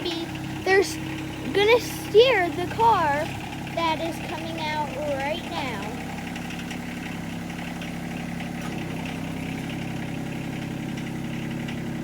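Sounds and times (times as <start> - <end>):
tractor engine at low revs: 0.0 - 12.0.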